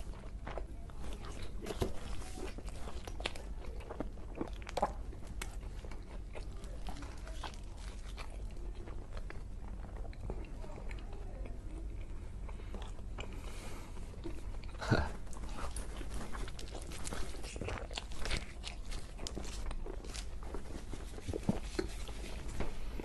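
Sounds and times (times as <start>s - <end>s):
chewing crunchy pizza crust: 0.0s - 23.0s.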